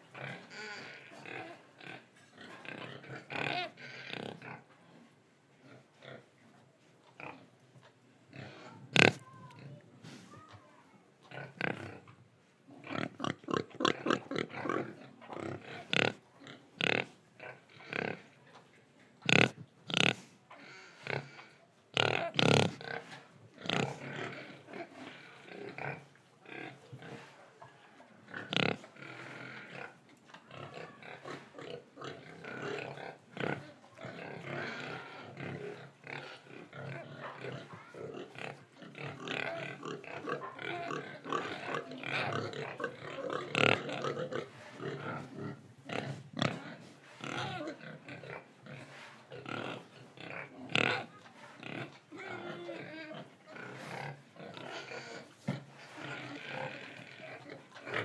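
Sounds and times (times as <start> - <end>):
young pigs grunting: 0.0 - 4.7, 8.3 - 10.5, 11.2 - 18.3, 19.2 - 27.3, 28.2 - 58.0.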